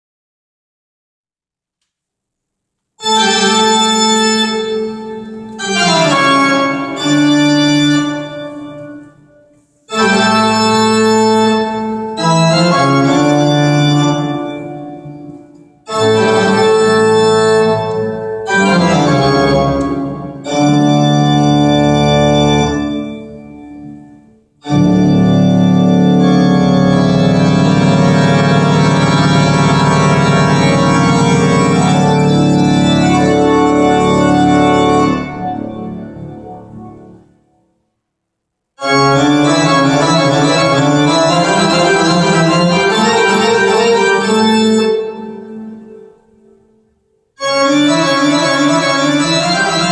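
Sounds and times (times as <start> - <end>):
organ chords: 3.0 - 37.6, 38.8 - 49.9.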